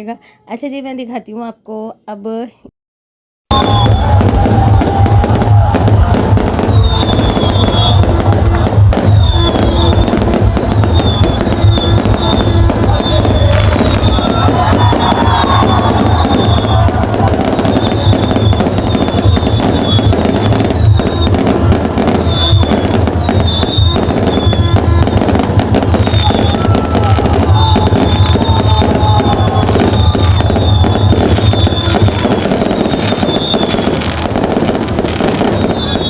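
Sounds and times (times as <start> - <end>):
fireworks and firecrackers crackling: 3.5 - 36.0
music playing: 3.6 - 33.0.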